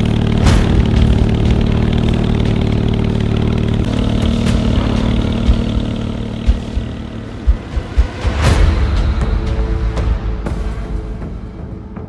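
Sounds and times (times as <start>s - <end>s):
car engine idling: 0.0s - 11.0s
low thumps: 0.2s - 10.8s.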